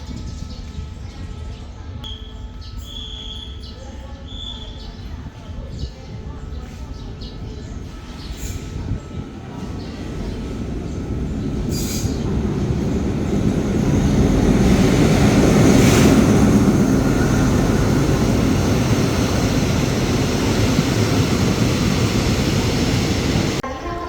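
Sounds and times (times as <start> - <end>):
train engine and wheels rumbling: 3.4 - 24.0.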